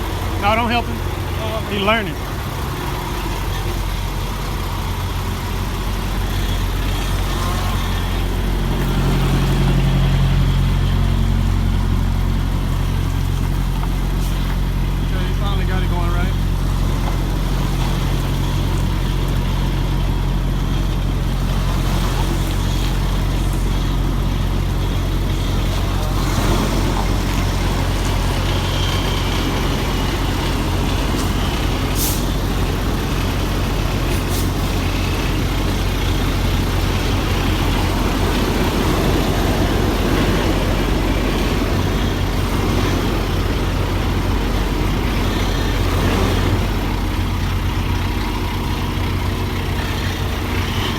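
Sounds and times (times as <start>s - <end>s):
truck diesel engine running: 0.0s - 50.9s.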